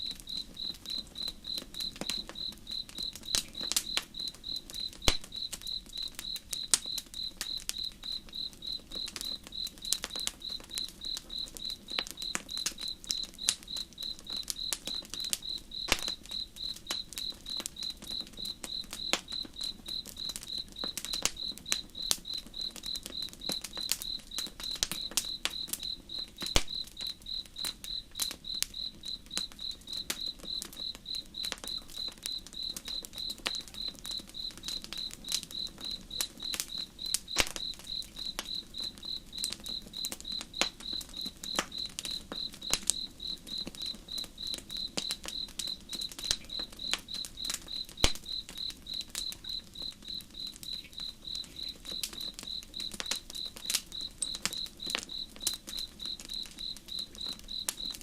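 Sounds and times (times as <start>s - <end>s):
campfire crackling and popping: 0.0s - 58.0s
crickets chirping: 0.0s - 58.0s.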